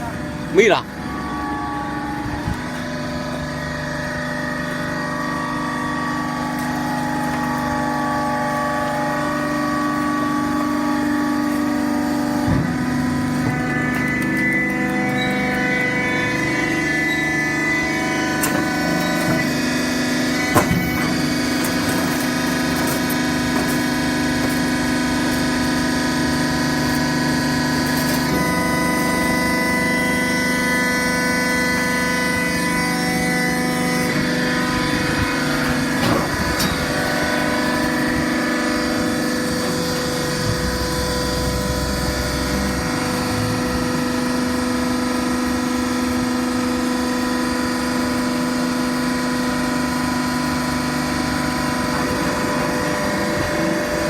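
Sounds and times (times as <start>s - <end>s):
hydraulic pump hum: 0.0s - 54.0s.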